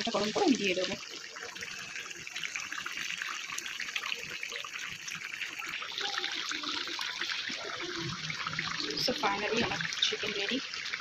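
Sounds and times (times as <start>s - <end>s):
curry sizzling in oil: 0.0s - 11.0s.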